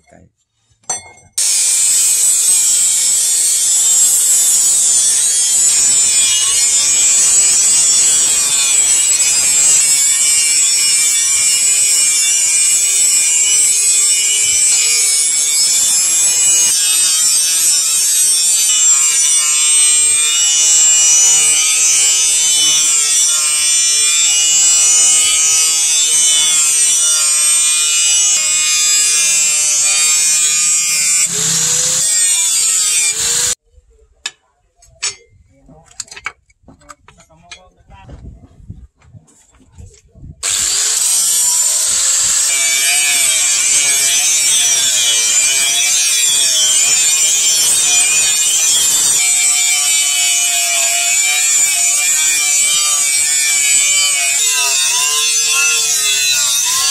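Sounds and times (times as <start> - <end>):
angle grinder disc grinding steel: 1.4 - 33.6, 40.4 - 56.9.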